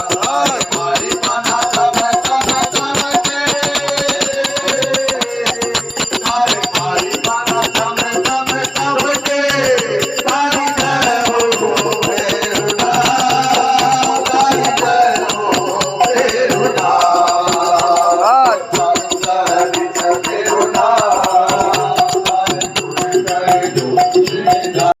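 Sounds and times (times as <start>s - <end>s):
fast shaken and struck percussion: 0.0s - 25.0s.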